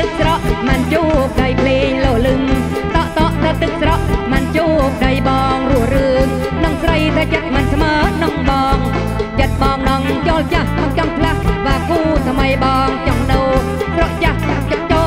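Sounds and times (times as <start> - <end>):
heavy drum beat: 0.0 - 15.0.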